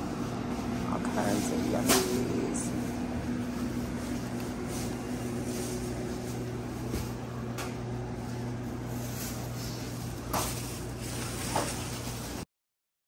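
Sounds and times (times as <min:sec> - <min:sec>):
low mechanical hum: 0:00.0 - 0:12.5.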